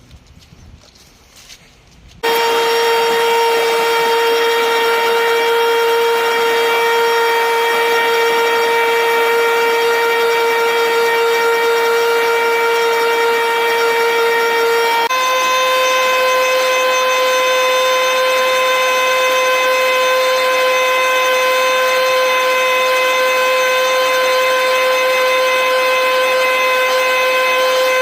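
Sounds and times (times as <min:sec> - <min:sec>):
leaf blower whining: 0:02.2 - 0:28.0.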